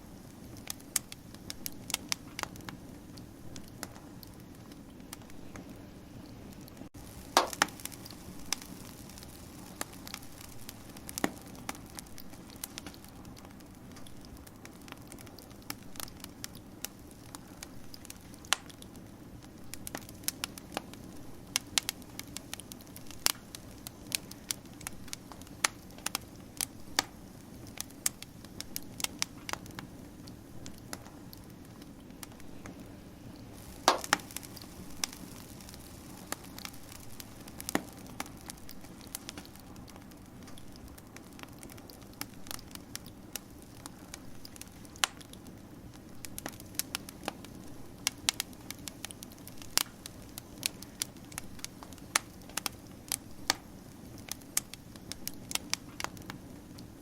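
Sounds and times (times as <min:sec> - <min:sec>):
wood fire crackling: 0:00.0 - 0:57.0
sharp pops and snaps: 0:00.2 - 0:57.0.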